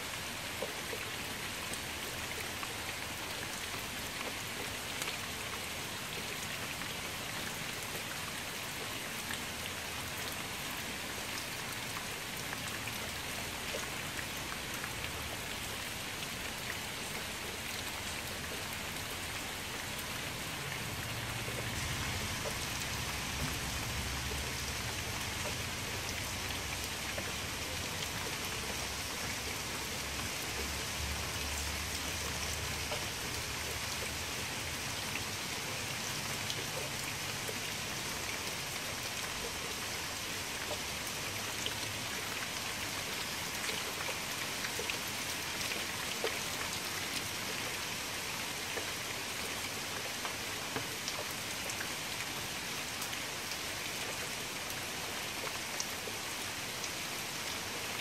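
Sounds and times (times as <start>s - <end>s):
rain falling into a puddle: 0.0s - 58.0s.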